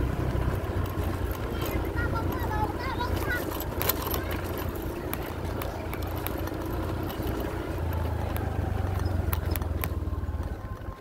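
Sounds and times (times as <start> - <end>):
vehicle rumbling on dirt road: 0.0 - 11.0
clicks and rattles: 0.7 - 10.0.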